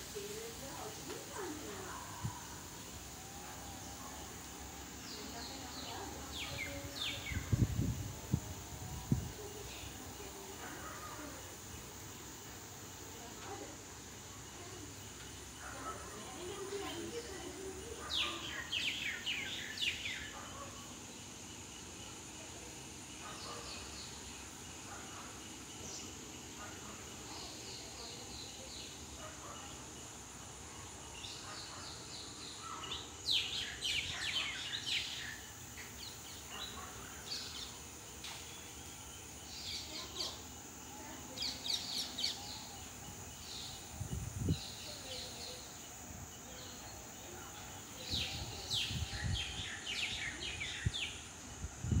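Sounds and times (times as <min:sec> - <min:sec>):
high hiss of background noise: 0:00.0 - 0:52.0.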